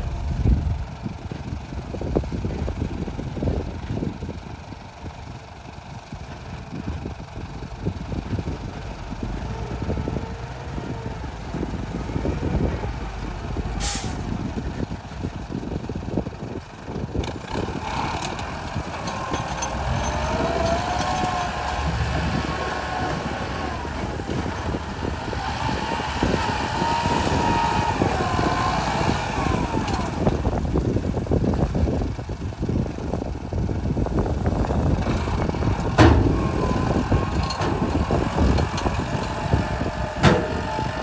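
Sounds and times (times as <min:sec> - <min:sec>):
truck engine running under load: 0:00.0 - 0:41.0.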